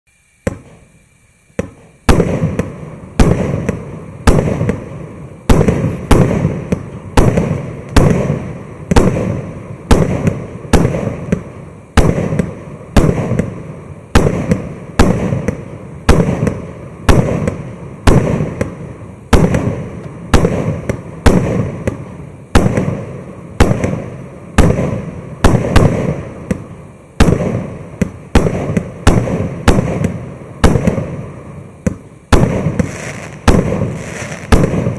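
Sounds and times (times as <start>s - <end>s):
fireworks bangs: 0.4s - 0.9s, 1.5s - 34.9s.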